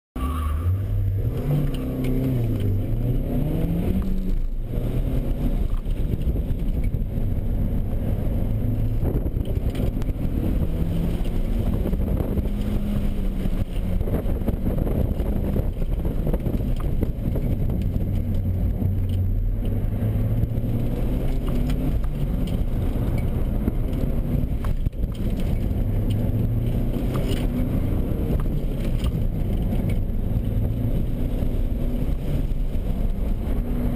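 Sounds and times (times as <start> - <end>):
car engine accelerating: 0.2 - 33.9
road noise: 0.2 - 33.9.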